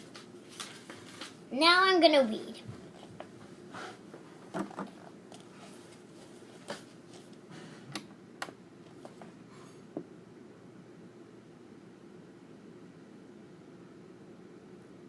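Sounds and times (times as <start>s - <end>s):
faint room noise: 0.0s - 15.0s.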